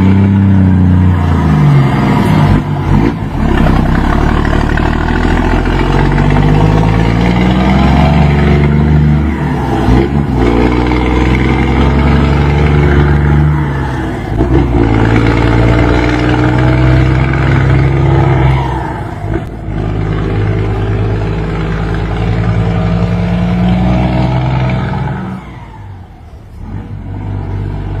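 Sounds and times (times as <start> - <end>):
truck engine accelerating: 0.0 - 28.0.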